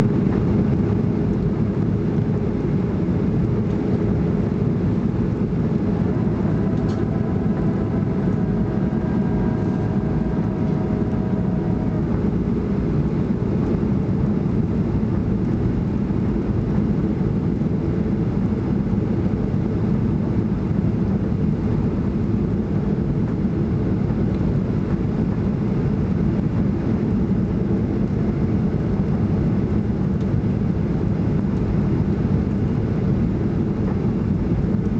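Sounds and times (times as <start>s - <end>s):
airplane cabin roar: 0.0s - 34.9s
faint steady whine: 0.0s - 34.9s.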